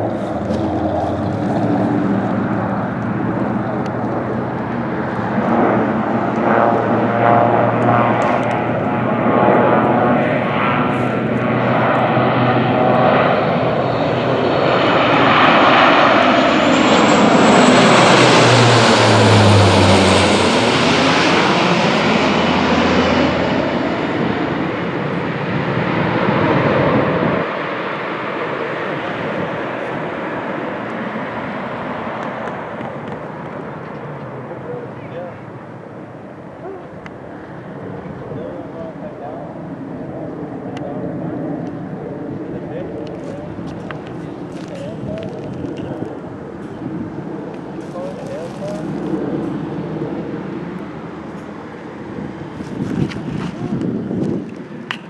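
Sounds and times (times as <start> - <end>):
propeller airplane flying past: 0.0 - 55.0.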